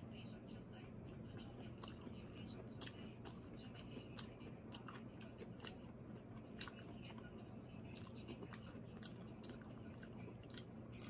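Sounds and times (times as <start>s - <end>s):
chewing crunchy vegetable: 0.8s - 11.0s.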